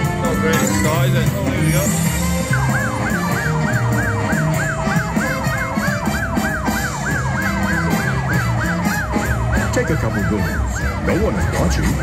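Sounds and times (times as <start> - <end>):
electronic music with pulsing bass: 0.0 - 12.0
slot machine siren-like warble: 0.2 - 12.0.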